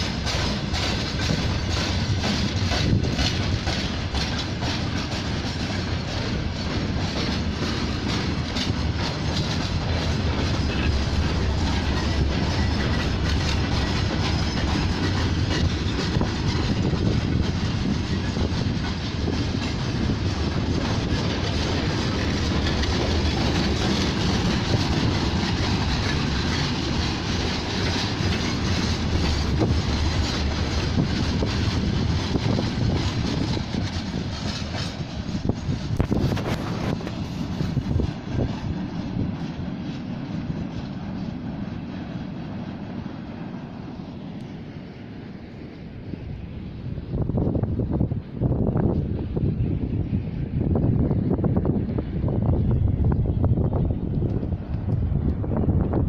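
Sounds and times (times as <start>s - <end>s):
clickety-clack over rail joints: 0.0s - 56.0s
train wheels rumbling: 0.0s - 56.0s.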